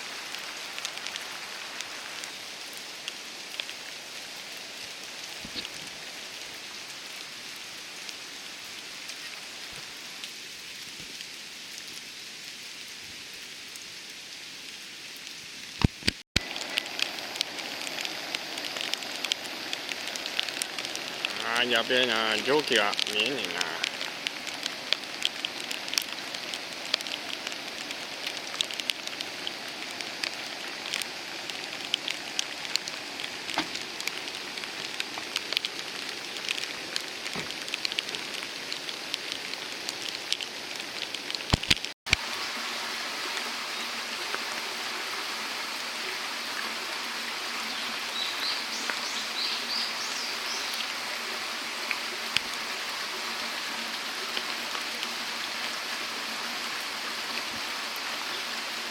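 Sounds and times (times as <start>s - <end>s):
rain drops striking close by: 0.0s - 58.9s
steady hiss of falling water: 0.0s - 58.9s.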